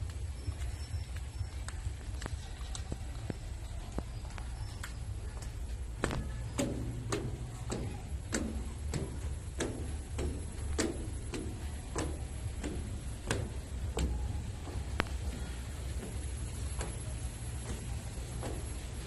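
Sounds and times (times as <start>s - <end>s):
footsteps on wooden stairs: 0.0s - 19.0s.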